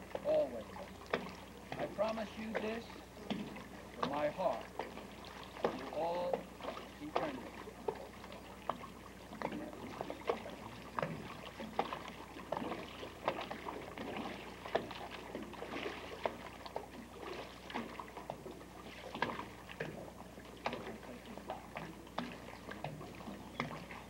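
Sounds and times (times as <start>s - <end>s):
lake water lapping and splashing: 0.0s - 24.0s
low steady hum: 0.0s - 24.0s.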